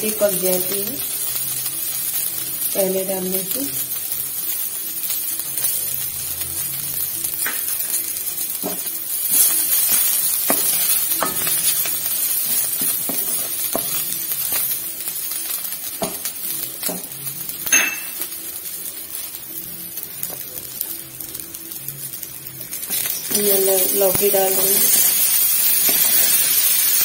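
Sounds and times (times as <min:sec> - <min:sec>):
spices sizzling in hot oil: 0:00.0 - 0:27.0.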